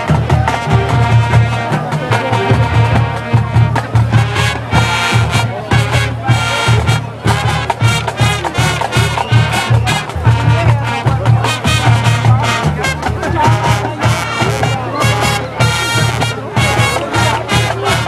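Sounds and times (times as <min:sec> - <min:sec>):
brass instruments: 0:00.0 - 0:18.0
heavy drum beat: 0:00.0 - 0:18.0.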